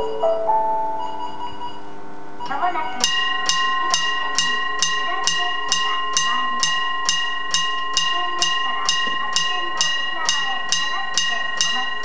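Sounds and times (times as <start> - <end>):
level crossing bell ringing: 0.0 - 12.0.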